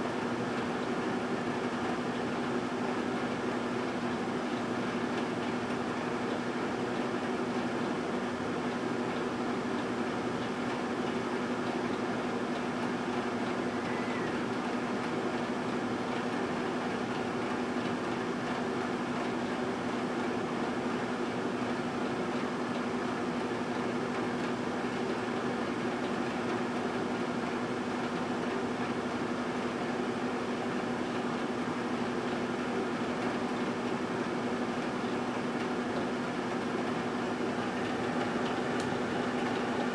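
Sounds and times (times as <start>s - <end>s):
fan noise: 0.0s - 39.9s
microwave oven humming: 0.0s - 39.9s.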